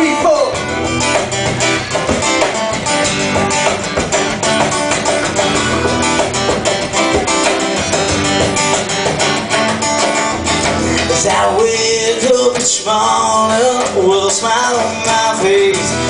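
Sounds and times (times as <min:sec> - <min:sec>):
live band playing: 0:00.0 - 0:16.0
strummed guitars: 0:00.0 - 0:16.0.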